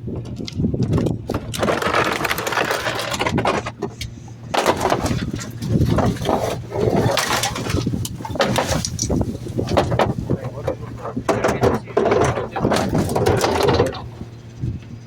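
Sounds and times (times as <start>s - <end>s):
garbage truck engine running: 0.0s - 15.0s
trash and cans clattering: 0.2s - 14.5s.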